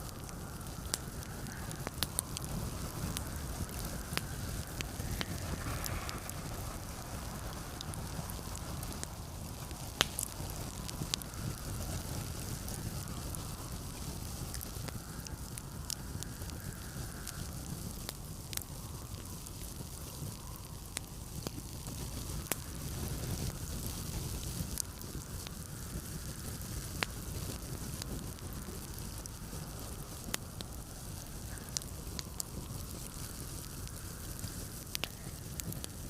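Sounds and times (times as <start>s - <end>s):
blizzard wind rushing: 0.0s - 36.0s
wood fire crackling: 0.0s - 36.0s.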